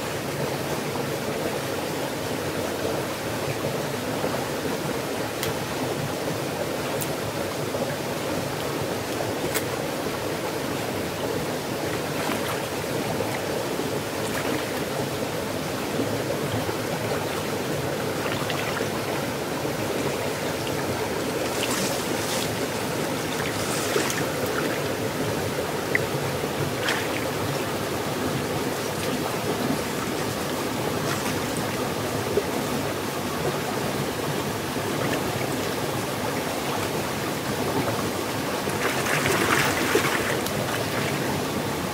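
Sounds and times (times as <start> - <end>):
stream water flowing: 0.0 - 41.9.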